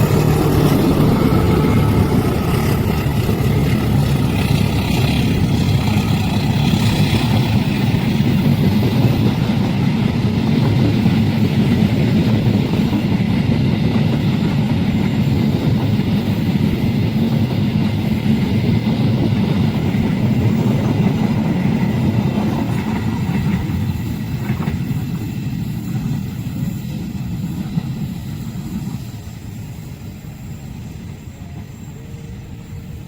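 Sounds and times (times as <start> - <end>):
train wagons rumbling over rails: 0.0 - 33.0.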